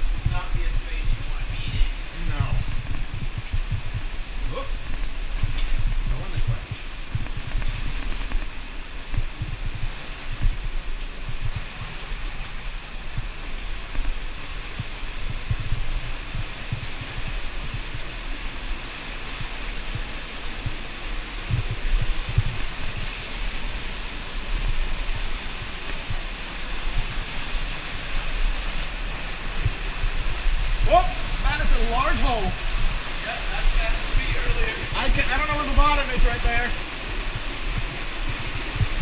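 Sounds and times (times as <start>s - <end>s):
river flowing over rocks: 0.0s - 39.0s
wading through water thumps: 0.0s - 39.0s.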